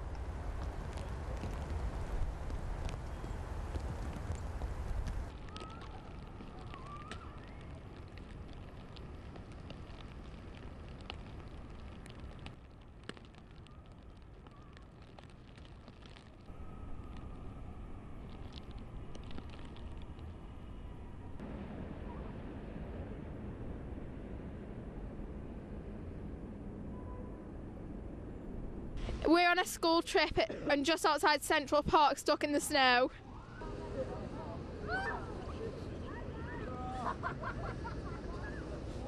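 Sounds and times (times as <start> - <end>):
low rumble of snowstorm: 0.0 - 39.0.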